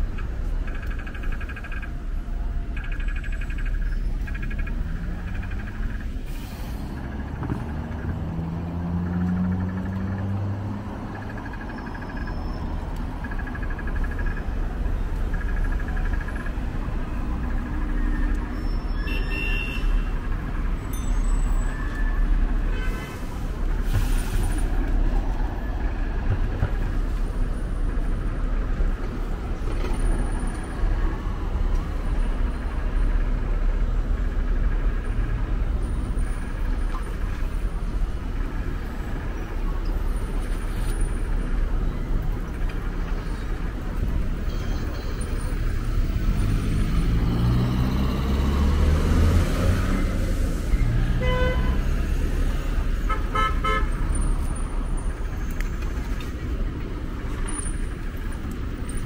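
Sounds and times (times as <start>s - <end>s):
heavy vehicle engine: 0.0s - 59.0s
traffic rumble: 0.0s - 59.0s.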